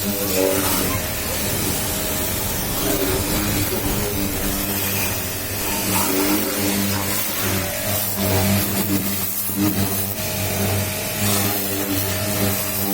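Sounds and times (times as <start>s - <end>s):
pressure washer motor hum: 0.0s - 12.9s
pressure washer water jet hissing: 0.0s - 12.9s.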